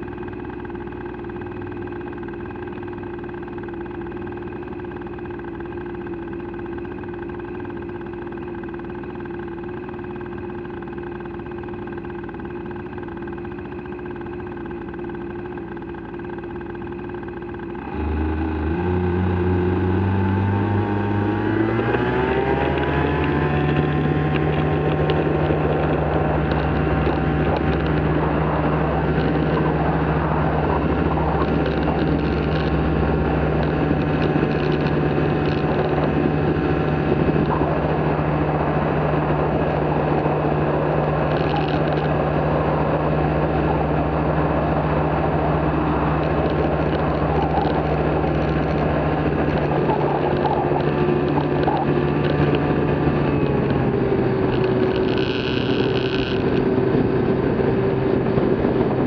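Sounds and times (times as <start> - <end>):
propeller engine running: 0.0 - 59.0.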